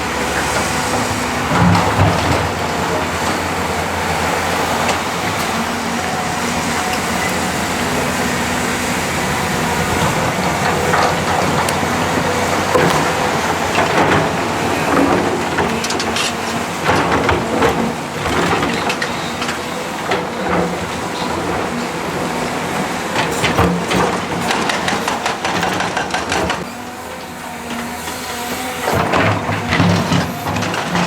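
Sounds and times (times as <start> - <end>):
diesel machinery running: 0.0 - 31.0.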